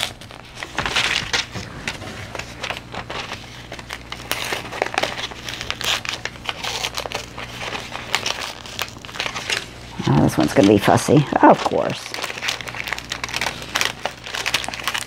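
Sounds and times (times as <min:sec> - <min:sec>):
paper envelope tearing open: 0:00.0 - 0:15.0.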